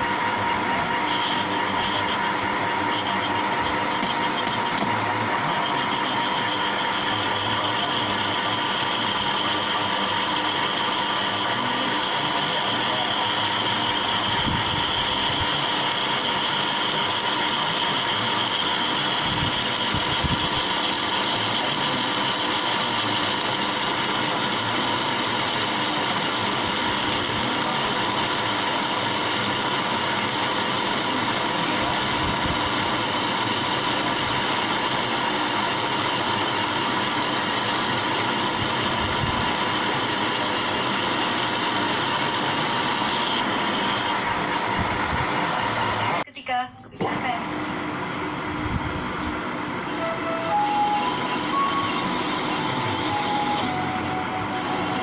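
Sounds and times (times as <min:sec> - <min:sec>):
machine humming with high whine: 0:00.0 - 0:46.2, 0:47.0 - 0:55.0.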